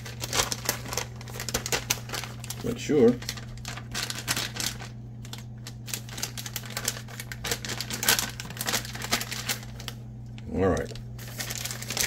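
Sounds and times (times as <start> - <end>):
low steady hum: 0.0 - 12.0
plastic bag crinkling: 0.0 - 12.0.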